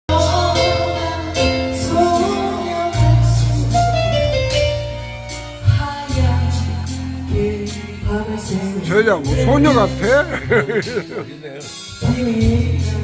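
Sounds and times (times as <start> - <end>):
instrumental music with bass and beat: 0.1 - 13.0.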